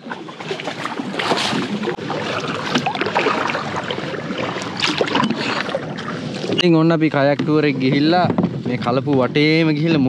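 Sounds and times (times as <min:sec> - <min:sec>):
water splashing around a kayak: 0:00.0 - 0:10.0.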